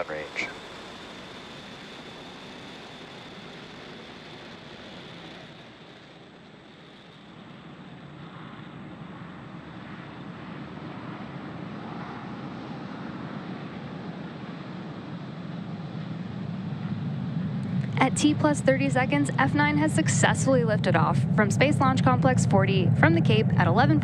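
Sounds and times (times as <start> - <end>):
rocket engine roar: 0.0 - 24.0.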